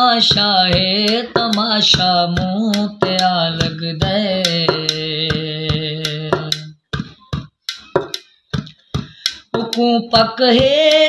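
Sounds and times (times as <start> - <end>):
sharp percussion strikes: 0.0 - 11.0.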